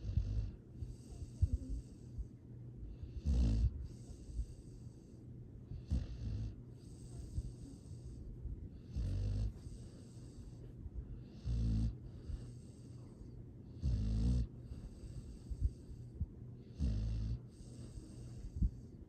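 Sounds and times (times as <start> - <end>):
dog snoring: 0.0 - 2.3, 2.9 - 18.9
soft airy breaths: 0.0 - 19.0.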